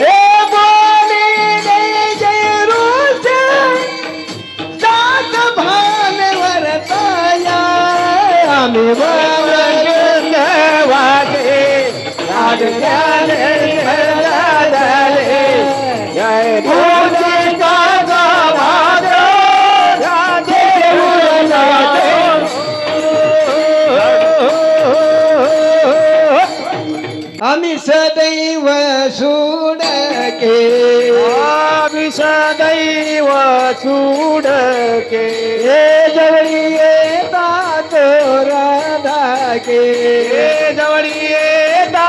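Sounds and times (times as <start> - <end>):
devotional music with singing: 0.0 - 42.0.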